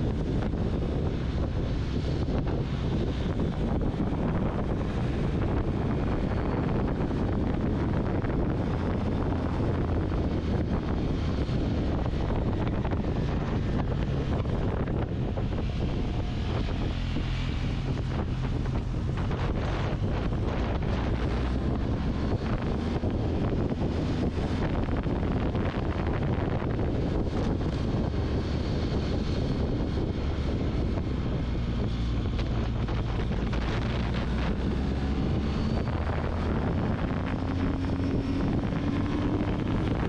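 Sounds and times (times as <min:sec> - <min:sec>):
motorcycle engine humming: 0:00.0 - 0:40.0
wind rushing over microphone: 0:00.0 - 0:40.0.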